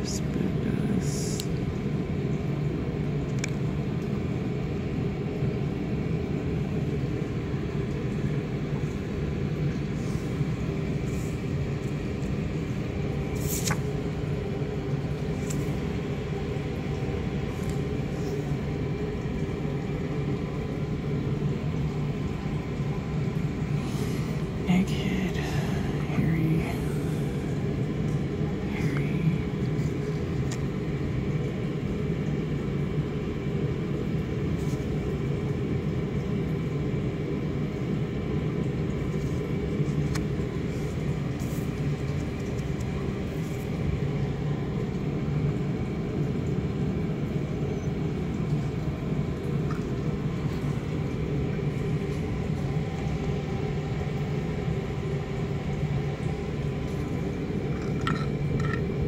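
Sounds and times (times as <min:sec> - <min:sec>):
steady low rumble: 0:00.0 - 0:59.0.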